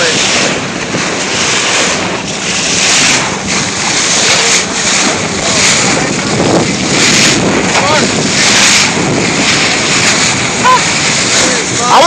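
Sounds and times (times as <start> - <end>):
water rushing along boat hull: 0.0 - 12.0
wind buffeting microphone: 0.0 - 12.0.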